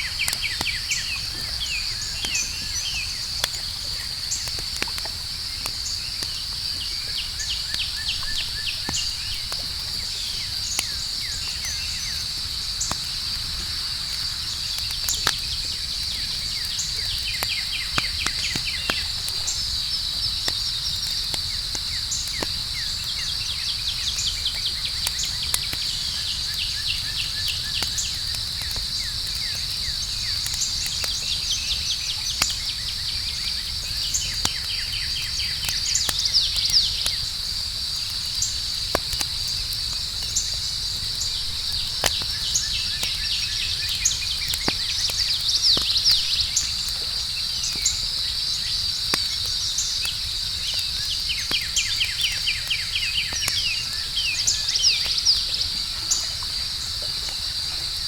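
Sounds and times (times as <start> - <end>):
campfire crackling and popping: 0.0 - 58.0
night insects chirping: 0.0 - 58.0.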